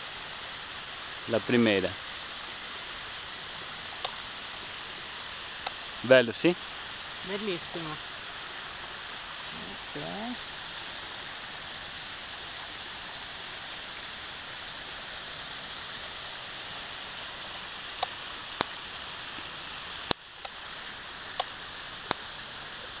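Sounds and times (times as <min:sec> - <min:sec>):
waterfall and stream rushing: 0:00.0 - 0:23.0.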